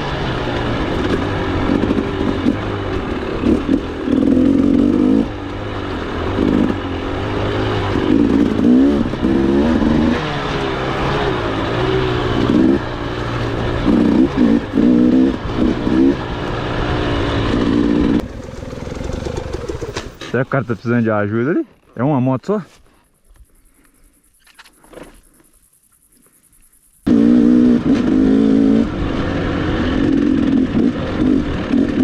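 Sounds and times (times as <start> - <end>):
motorcycle engine revving: 0.0 - 21.0, 27.0 - 32.0.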